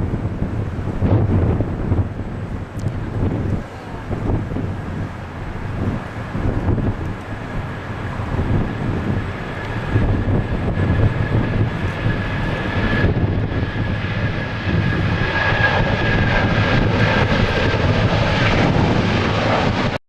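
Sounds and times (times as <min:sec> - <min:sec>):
high jet engine whine: 0:00.0 - 0:20.0
jet engine rumble: 0:00.0 - 0:20.0.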